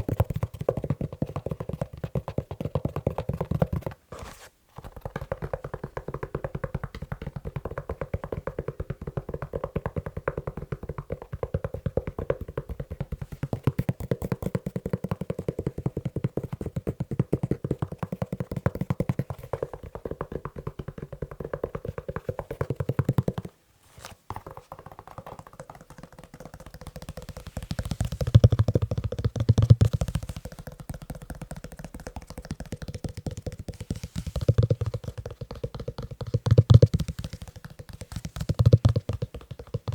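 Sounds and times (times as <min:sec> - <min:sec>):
fast tapping on leather shoe: 0:00.0 - 0:04.0, 0:04.8 - 0:23.6, 0:24.3 - 0:39.9.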